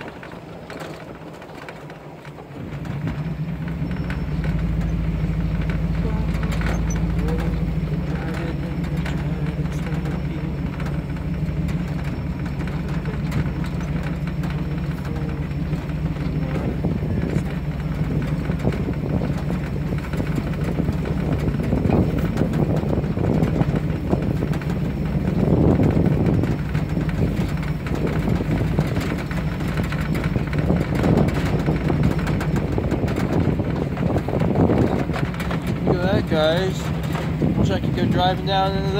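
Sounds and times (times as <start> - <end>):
rattles and knocks from rough ground: 0.0 - 38.9
vehicle engine drone: 0.0 - 38.9.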